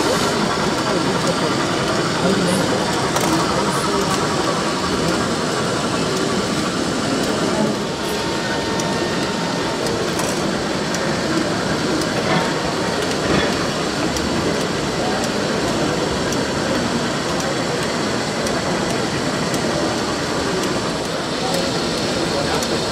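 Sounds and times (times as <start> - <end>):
busy exhibition hall noise: 0.0 - 22.9
model train rattling on track: 0.0 - 22.9.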